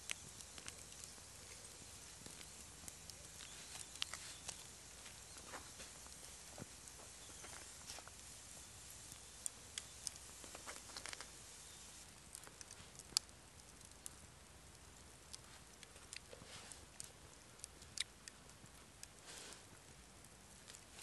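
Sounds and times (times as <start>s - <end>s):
faint crisp clicks and ticks: 0.0s - 11.4s, 12.0s - 21.0s
background hiss: 0.0s - 21.0s.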